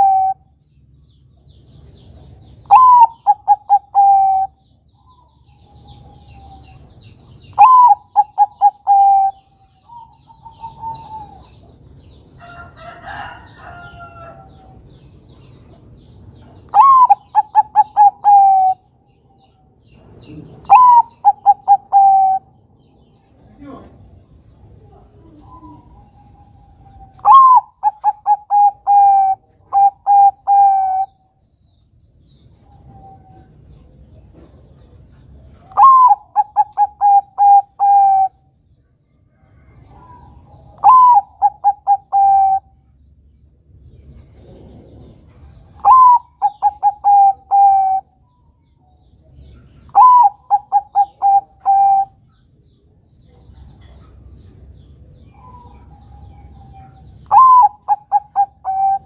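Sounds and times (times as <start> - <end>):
dove cooing song: 0.0 - 0.6, 1.8 - 14.8, 16.3 - 24.0, 24.6 - 31.4, 32.4 - 38.6, 39.3 - 42.9, 44.1 - 52.4, 53.3 - 59.0.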